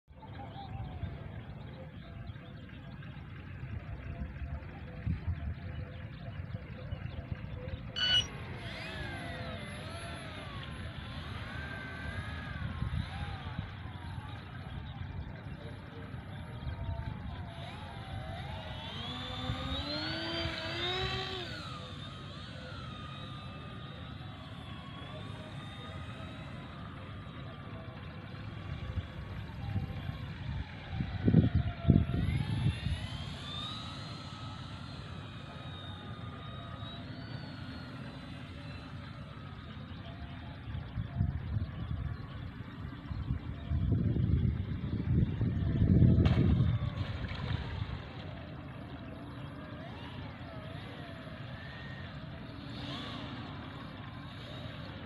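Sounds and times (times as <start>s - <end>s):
propeller motors whining: 0.1s - 55.0s.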